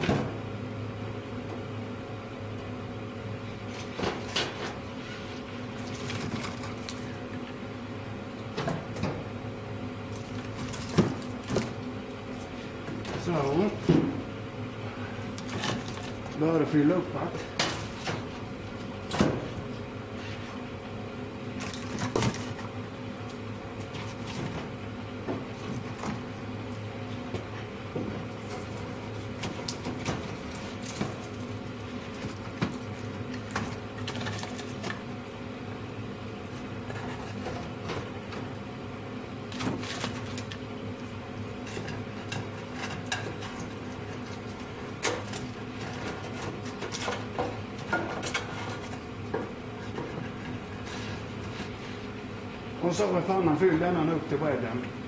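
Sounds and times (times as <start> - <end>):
draught fan humming: 0.0 - 55.0.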